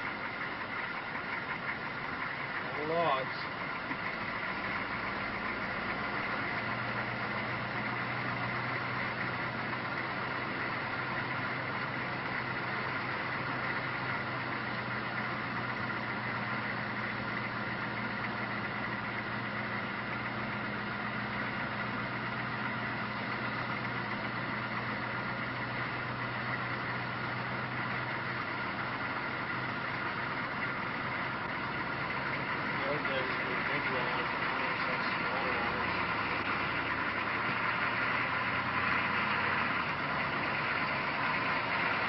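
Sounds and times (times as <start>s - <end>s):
engine humming steadily: 0.0s - 42.0s.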